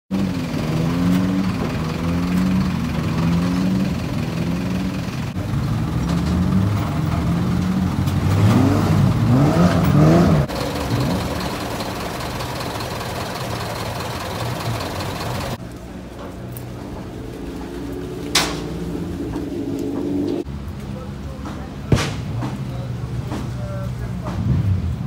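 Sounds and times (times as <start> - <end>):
car engine revving: 0.1 - 21.2.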